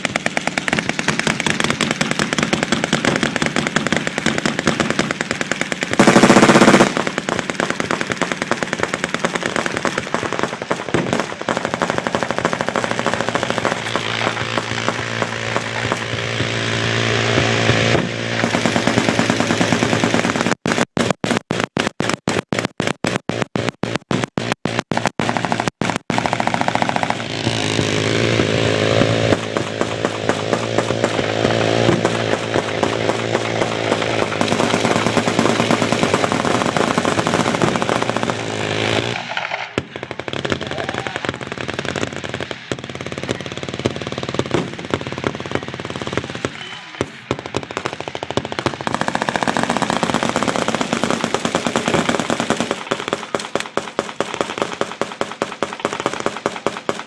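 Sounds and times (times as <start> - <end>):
machine guns firing: 0.0 - 57.0.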